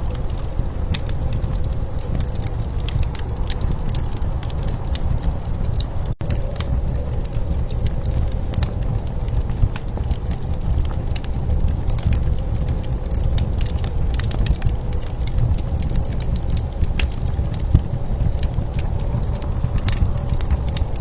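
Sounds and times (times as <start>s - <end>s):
blizzard wind rumble: 0.0s - 21.0s
wood fire crackling and popping: 0.0s - 21.0s.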